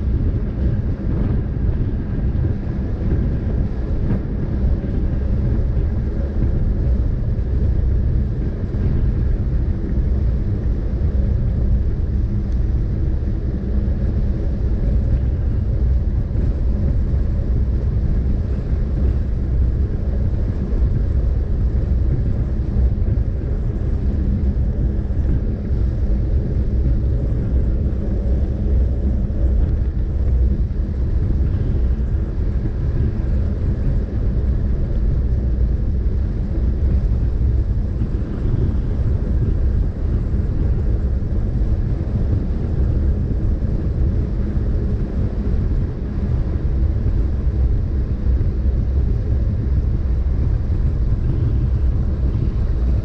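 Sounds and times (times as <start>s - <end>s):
faint hum: 0.0s - 53.0s
low rumble: 0.0s - 53.0s.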